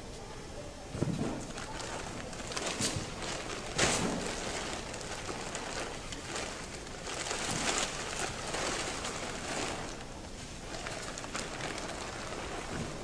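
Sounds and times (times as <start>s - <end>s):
convention hall background noise: 0.0s - 13.0s
poster rustling and knocking: 1.0s - 13.0s.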